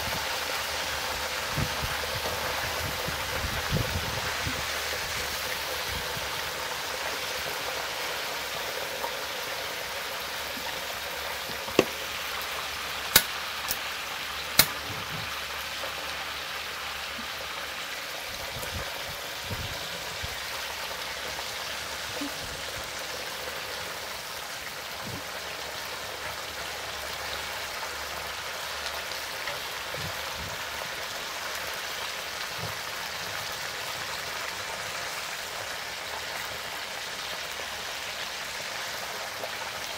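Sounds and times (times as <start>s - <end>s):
oil sizzling in a wok: 0.0s - 39.9s.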